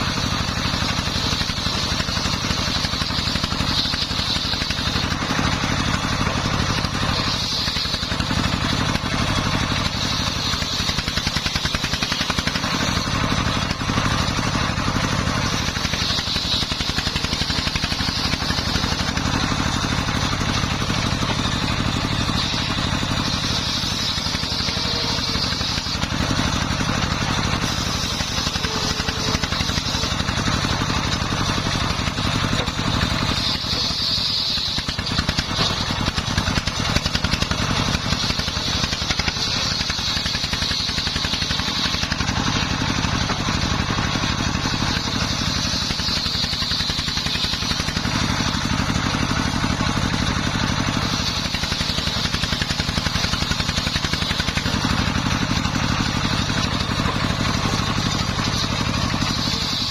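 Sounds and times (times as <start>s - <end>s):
circular saw whine: 0.0s - 59.9s
diesel engine running: 0.0s - 59.9s.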